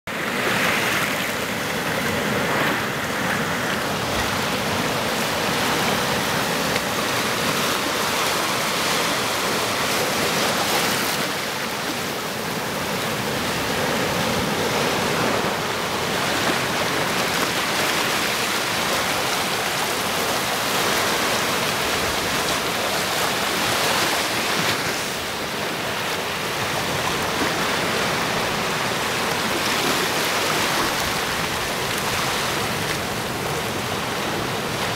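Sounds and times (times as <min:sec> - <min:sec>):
surf splashing on boulders: 0:00.1 - 0:34.9.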